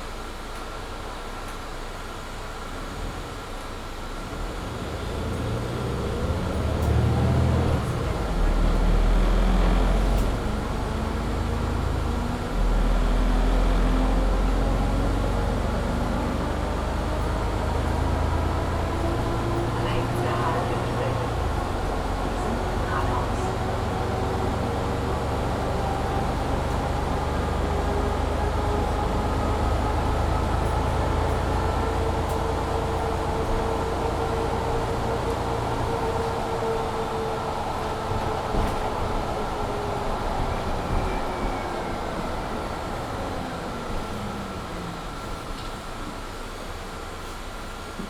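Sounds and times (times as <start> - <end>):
bus drivetrain whine: 0.0 - 48.0.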